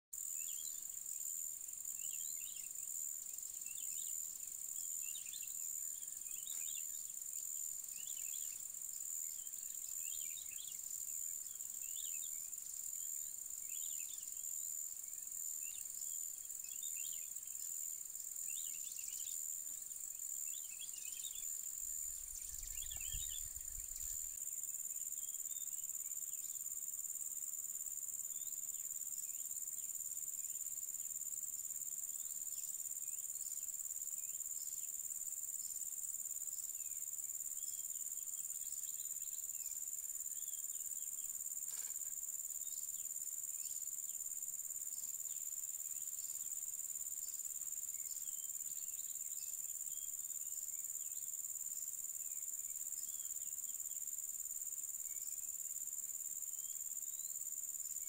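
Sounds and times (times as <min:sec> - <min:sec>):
high-pitched insect chorus: 0:00.2 - 0:58.0
short insect chirps: 0:00.2 - 0:58.0.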